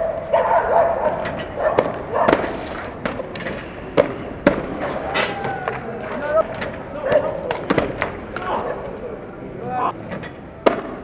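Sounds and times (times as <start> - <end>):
skateboard clacking on hard ground: 1.1 - 9.2, 10.0 - 11.0.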